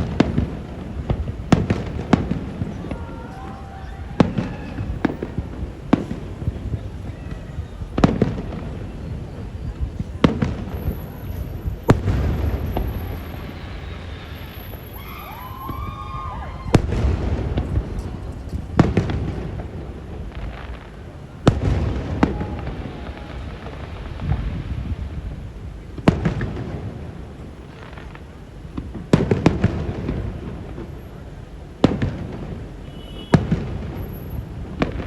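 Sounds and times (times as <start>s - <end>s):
fireworks bangs: 0.0s - 35.0s
fireworks rumbling and crackling: 0.0s - 35.0s.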